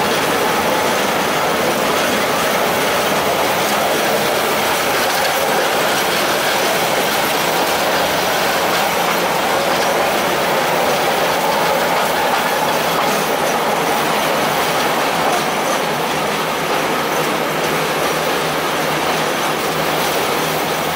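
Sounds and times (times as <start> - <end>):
rail motor car running: 0.0 - 20.9
steel wheels on rails: 0.0 - 20.9.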